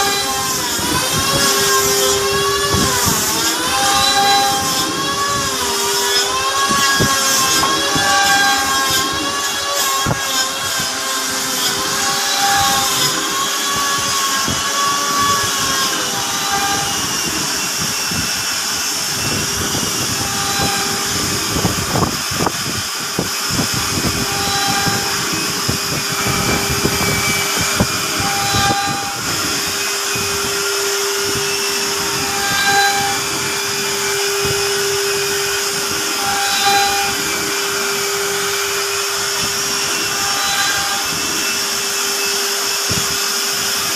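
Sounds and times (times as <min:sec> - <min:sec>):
machining noise: 0:00.0 - 0:43.9
pitched motor tones: 0:00.0 - 0:43.9
spindle whine: 0:00.0 - 0:43.9.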